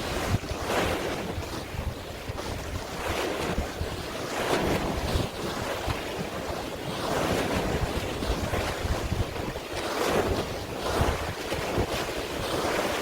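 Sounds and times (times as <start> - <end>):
waves washing in: 0.0 - 13.0
wind rumbling on microphone: 0.0 - 13.0.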